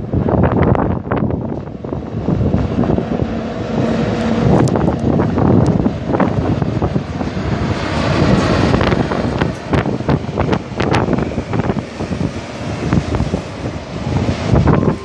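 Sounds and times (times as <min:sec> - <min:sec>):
train passing rumble: 0:00.0 - 0:15.0
train wheels clicking on rails: 0:00.0 - 0:15.0
wind buffeting microphone: 0:00.0 - 0:15.0.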